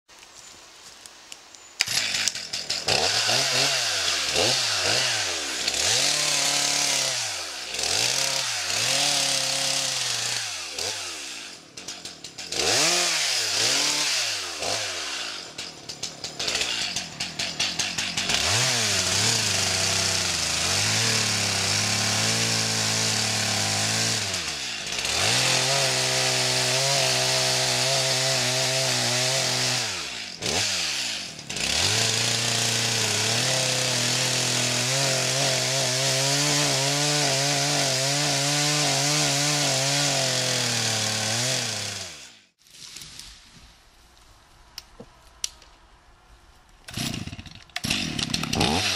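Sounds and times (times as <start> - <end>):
chainsaw cutting tree trunk: 1.8 - 42.6, 46.9 - 48.9.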